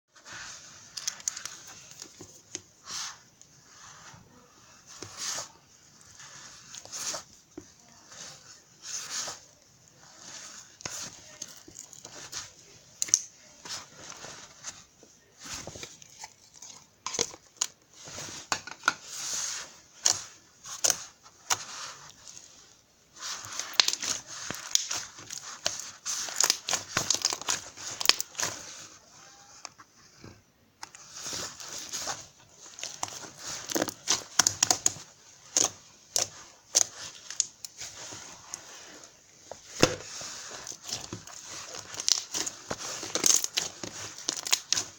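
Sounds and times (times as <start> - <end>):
crinkling and rustling handling: 0.1 - 44.9.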